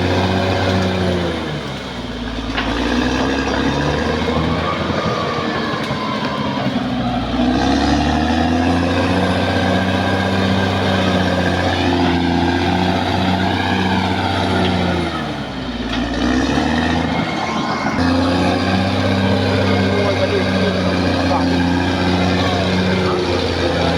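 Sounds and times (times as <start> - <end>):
bulldozer diesel engine under load: 0.0 - 23.9.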